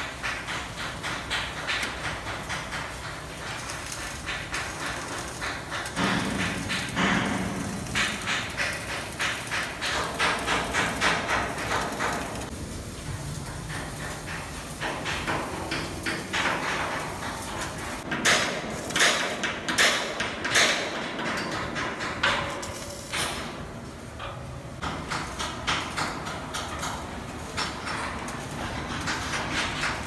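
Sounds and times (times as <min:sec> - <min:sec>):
welding and steel-work bursts: 0:00.0 - 0:30.0.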